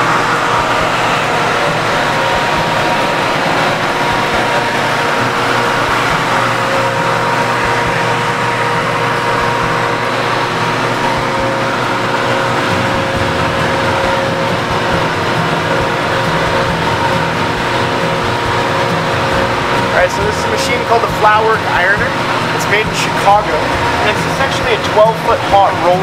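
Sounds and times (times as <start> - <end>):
faint machine whine: 0.0 - 26.0
machine drone: 0.0 - 26.0.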